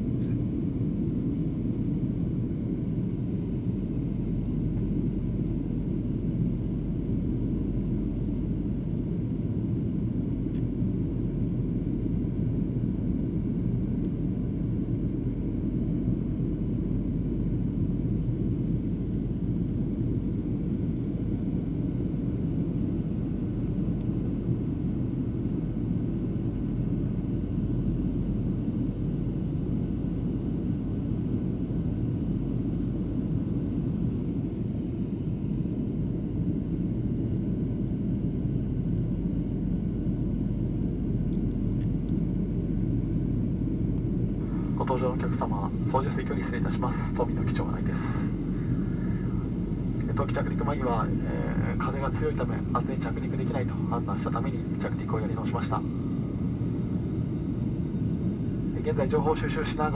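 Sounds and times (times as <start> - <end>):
jet engines and airflow rumble: 0.0 - 59.9.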